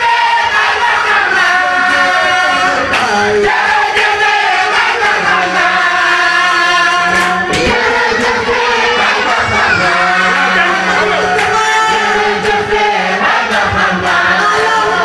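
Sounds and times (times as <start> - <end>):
group singing a chant: 0.0 - 15.0
lead voice singing on microphone: 0.0 - 15.0.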